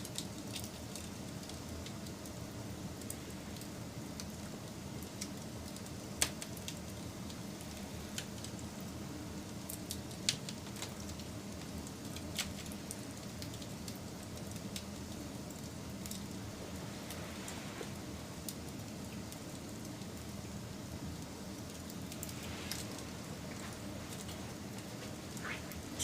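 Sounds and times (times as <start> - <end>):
fire rumbling and hissing: 0.0 - 26.0.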